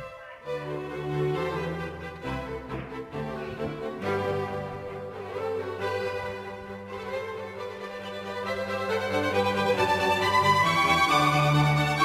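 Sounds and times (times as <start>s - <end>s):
bowed strings music: 0.0s - 12.0s.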